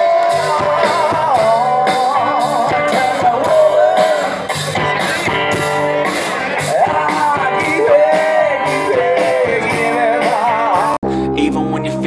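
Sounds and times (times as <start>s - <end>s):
steady drum beat: 0.0s - 11.0s
guitar: 0.0s - 12.0s
rock music: 0.0s - 12.0s.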